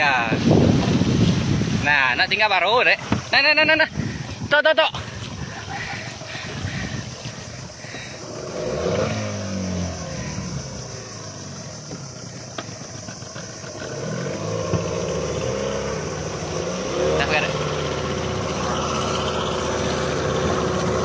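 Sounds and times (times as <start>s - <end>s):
speedboat engine revving: 0.0s - 21.0s.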